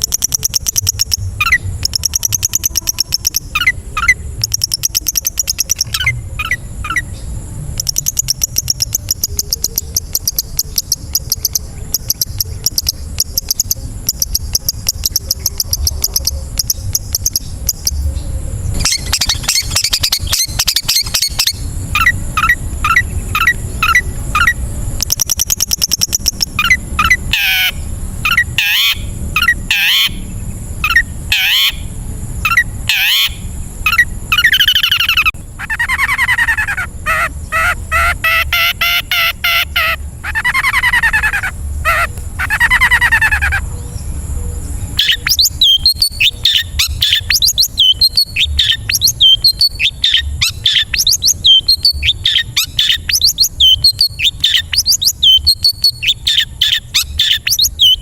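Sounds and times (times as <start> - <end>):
shrike singing mimicking song: 0.0 - 58.0.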